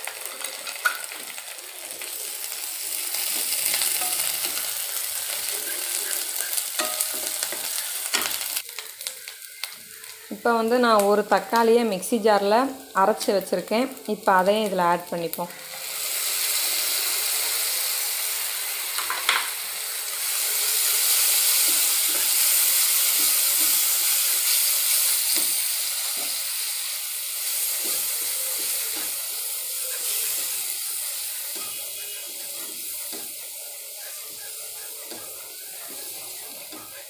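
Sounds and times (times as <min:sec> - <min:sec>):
food sizzling in hot oil: 0:00.0 - 0:37.0.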